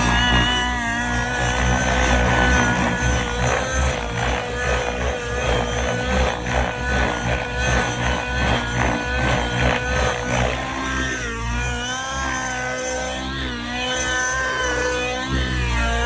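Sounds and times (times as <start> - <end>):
model helicopter engine and rotor: 0.0 - 16.0.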